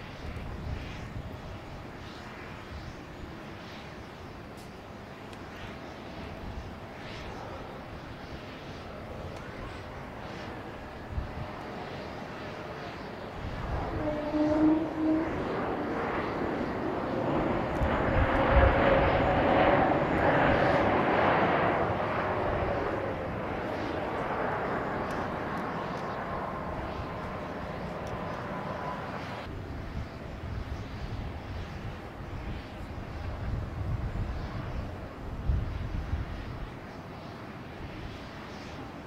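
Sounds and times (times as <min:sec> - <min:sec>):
jet airliner passing: 0:00.0 - 0:39.0.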